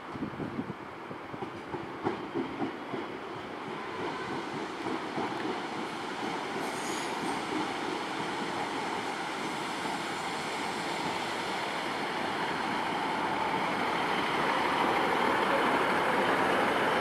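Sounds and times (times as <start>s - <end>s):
train wheels on rails: 0.0s - 17.0s
train engines running: 0.7s - 17.0s.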